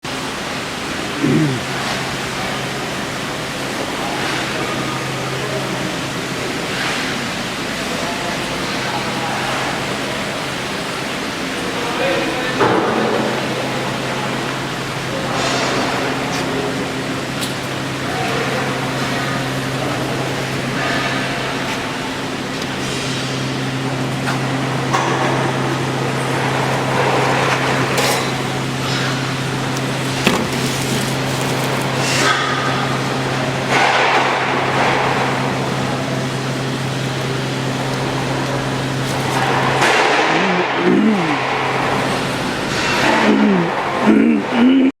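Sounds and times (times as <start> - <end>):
furnace rushing noise: 0.1 - 44.5
machine noise: 0.1 - 45.0.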